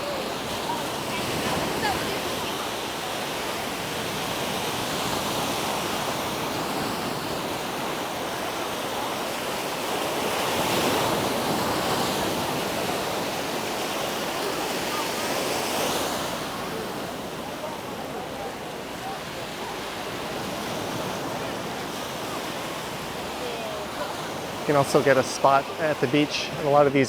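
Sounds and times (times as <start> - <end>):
surf washing onto beach: 0.0 - 27.0.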